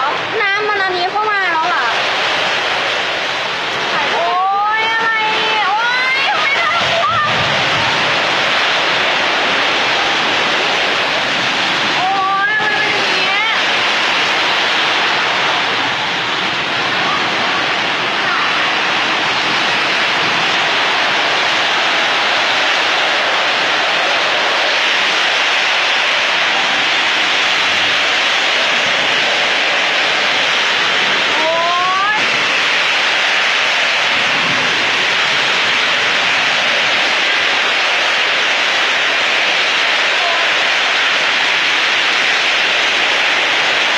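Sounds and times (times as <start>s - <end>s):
heavy rain: 0.0s - 43.9s
wind: 0.0s - 43.9s.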